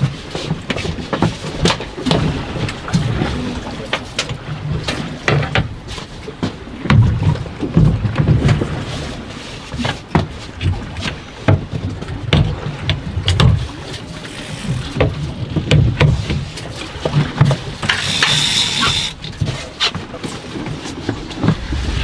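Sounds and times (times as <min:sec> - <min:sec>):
low thumps on boat: 0:00.0 - 0:22.0.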